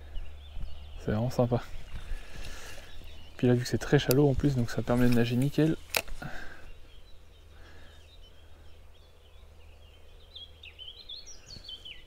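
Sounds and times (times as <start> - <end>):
songbird twittering: 0.0 - 12.0.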